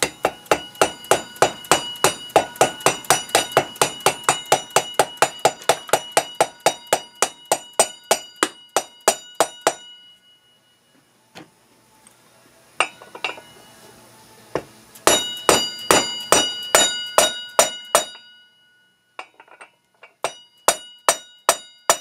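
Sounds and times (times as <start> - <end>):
hammer striking metal: 0.0 - 10.2, 12.8 - 13.6, 14.6 - 22.0.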